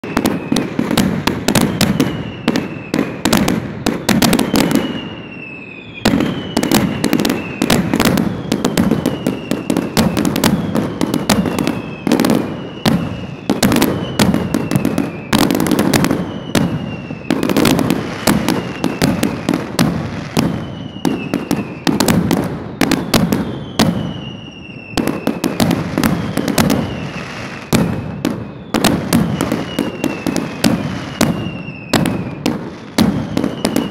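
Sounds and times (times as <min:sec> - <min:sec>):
falling firework whistles: 0:00.0 - 0:33.9
fireworks bangs and crackling: 0:00.0 - 0:33.9.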